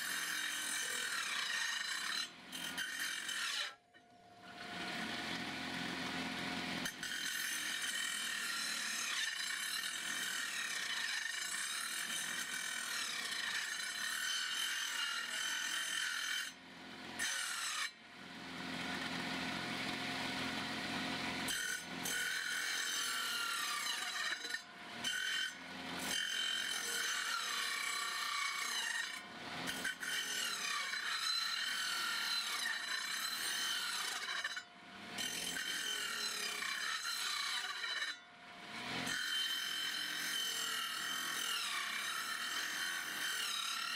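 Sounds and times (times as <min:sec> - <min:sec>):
circular saw cutting wood: 0:00.0 - 0:43.9.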